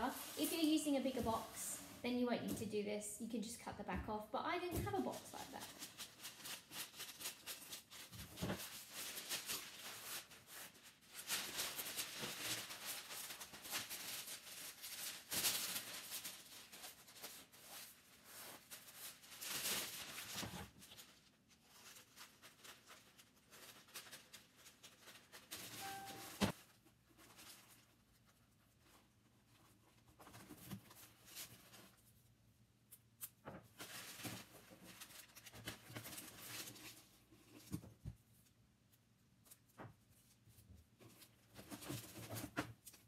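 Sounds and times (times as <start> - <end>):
baking paper rustling and crinkling: 0.0 - 2.8, 4.6 - 32.4, 33.0 - 43.0.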